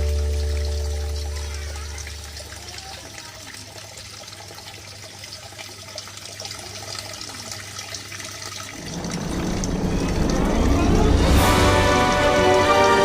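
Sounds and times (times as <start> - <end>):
small waterfall splashing: 0.0 - 13.0.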